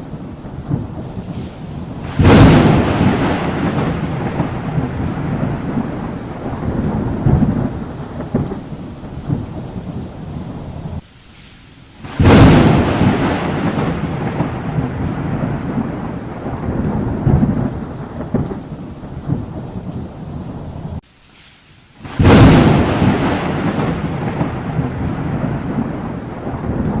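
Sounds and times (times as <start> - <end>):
loud thunderclap: 0.0 - 11.0, 12.0 - 21.0, 22.0 - 27.0
thunder rumbling: 0.0 - 11.0, 12.0 - 21.0, 22.0 - 27.0
steady rain: 0.0 - 27.0.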